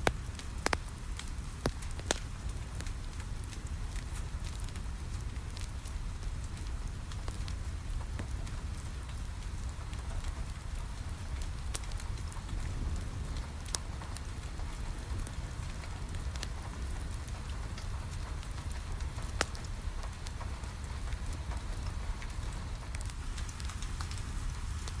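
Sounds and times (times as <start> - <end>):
rain against a window: 0.0 - 25.0
wood fire crackling: 0.0 - 25.0.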